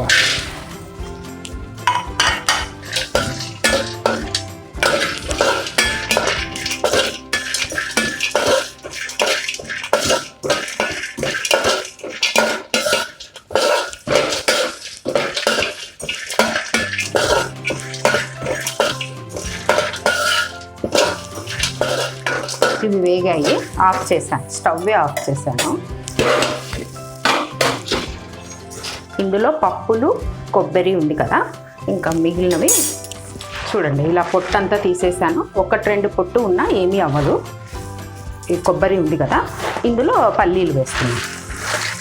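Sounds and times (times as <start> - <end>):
spatula scraping a pan: 0.0 - 29.3, 32.3 - 35.4, 36.5 - 42.0.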